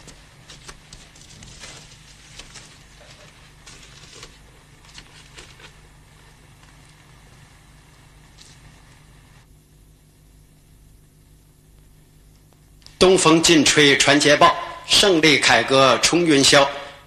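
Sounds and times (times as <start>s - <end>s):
old film soundtrack hum and hiss: 0.0s - 17.0s.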